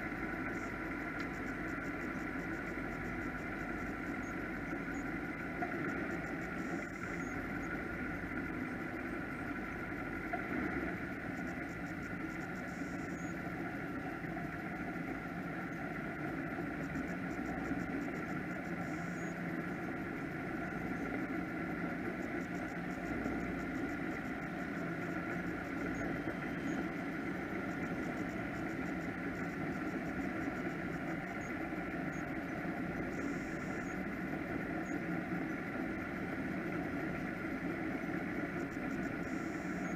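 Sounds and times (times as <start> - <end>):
powerboat engines idling: 0.0 - 39.9.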